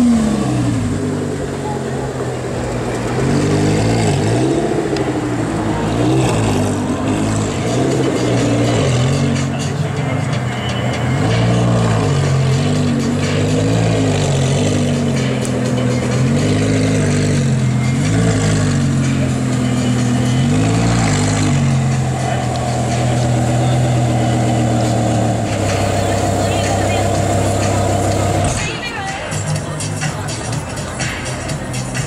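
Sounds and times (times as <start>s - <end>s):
sports car engine revving and idling: 0.0s - 28.9s.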